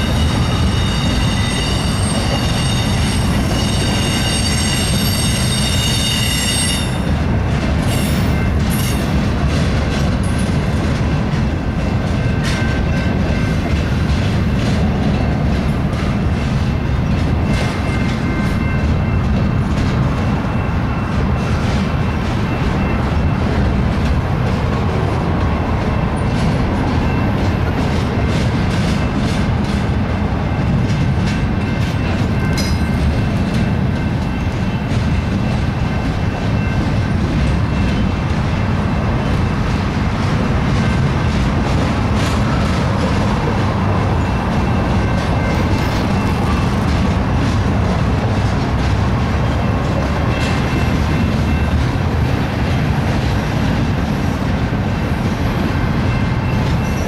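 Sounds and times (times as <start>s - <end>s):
train wheels rumbling on rail: 0.0s - 57.0s
wheels clicking over rail joints: 6.8s - 57.0s.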